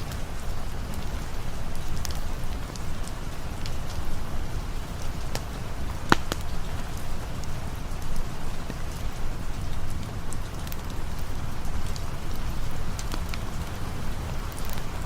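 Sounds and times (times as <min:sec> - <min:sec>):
campfire crackling and popping: 0:00.0 - 0:15.0
steady rain: 0:00.0 - 0:15.0.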